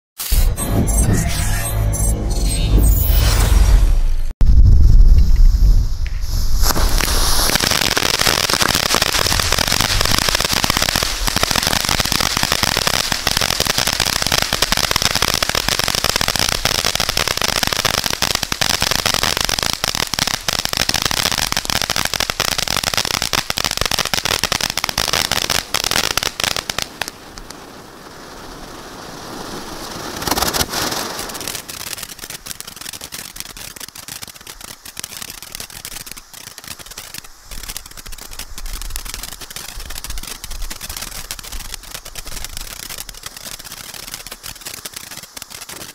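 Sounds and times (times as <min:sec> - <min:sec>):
firework crackling and popping: 0:04.5 - 0:45.9
firework rushing gush: 0:05.6 - 0:45.9.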